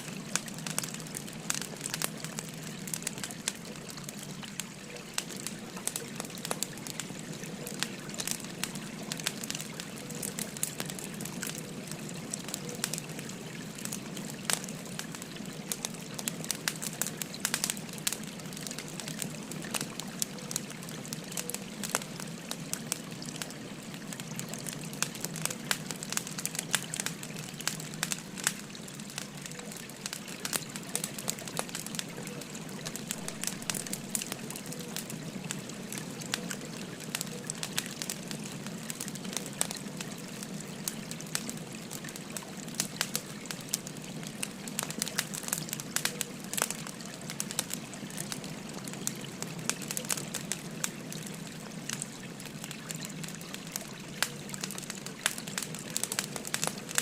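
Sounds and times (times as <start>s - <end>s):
firewood crackling and popping: 0.0s - 57.0s
stream babbling: 0.0s - 57.0s.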